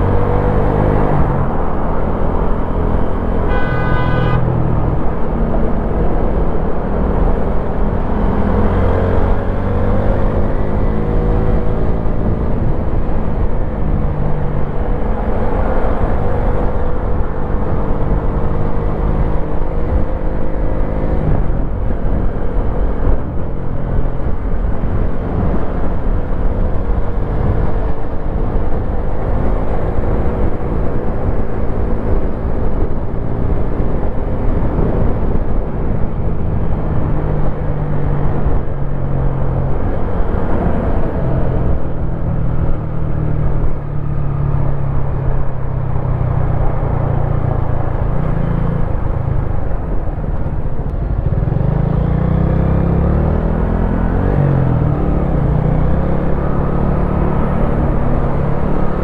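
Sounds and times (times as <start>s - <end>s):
wind rumble on microphone: 4.3s - 59.0s.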